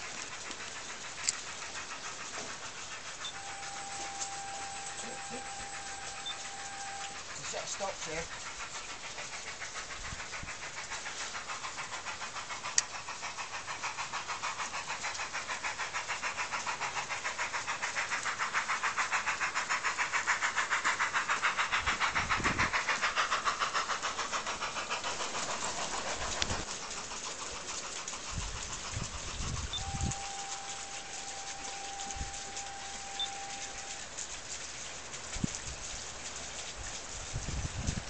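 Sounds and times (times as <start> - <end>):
model train passing: 0.0 - 38.0.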